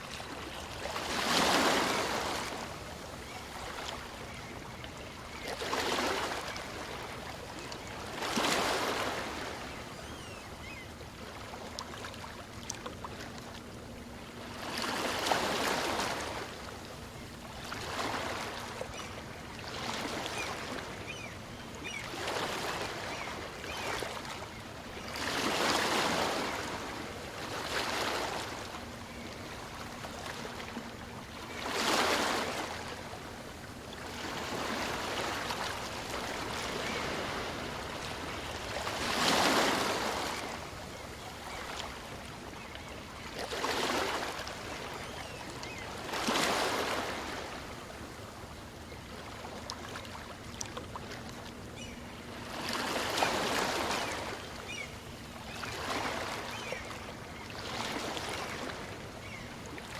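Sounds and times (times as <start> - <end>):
small waves washing up a beach: 0.0 - 59.9.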